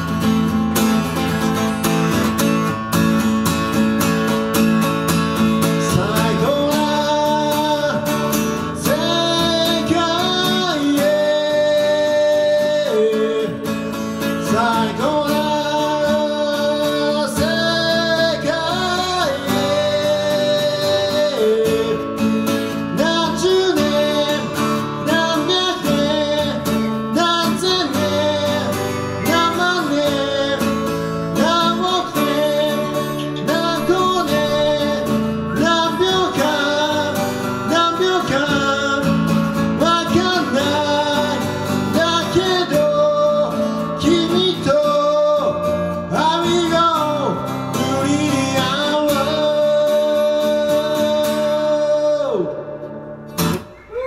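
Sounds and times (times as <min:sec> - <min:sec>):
man singing: 0:00.0 - 0:54.0
strummed acoustic guitar: 0:00.0 - 0:54.0.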